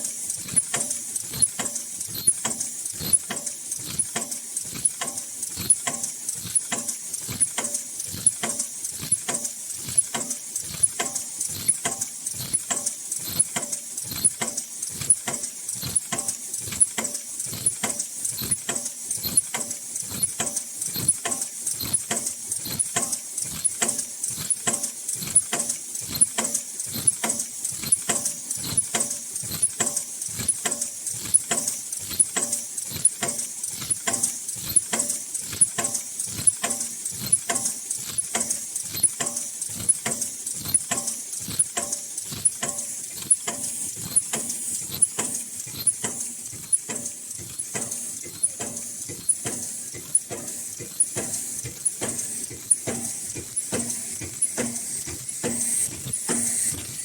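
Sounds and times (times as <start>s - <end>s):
machine mechanism clacking: 0.0s - 57.0s.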